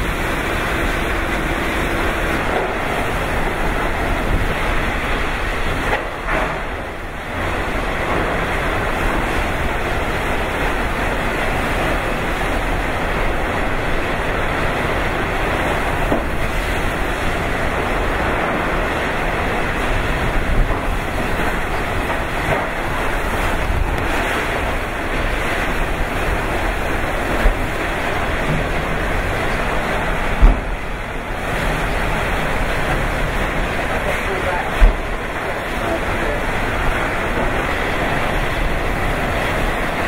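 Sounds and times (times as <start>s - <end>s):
strong wind and driving rain: 0.0s - 40.0s
wind buffeting microphone: 0.0s - 40.0s.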